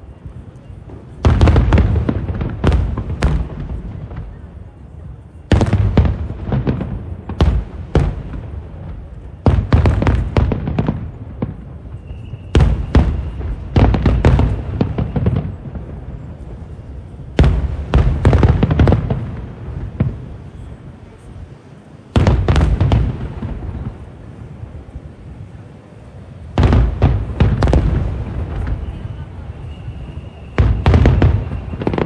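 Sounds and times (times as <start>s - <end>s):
fireworks bangs and rumble: 0.0s - 32.0s.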